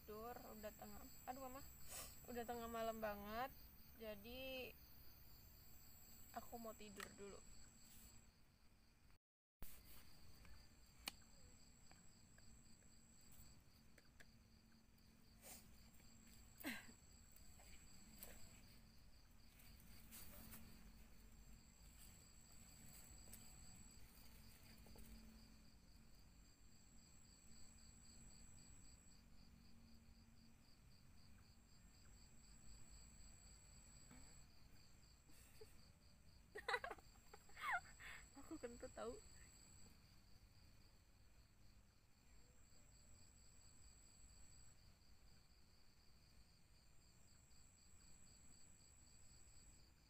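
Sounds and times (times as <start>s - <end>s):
crickets chirping: 0.0s - 9.0s, 9.7s - 50.0s
high insect trill: 9.7s - 50.0s.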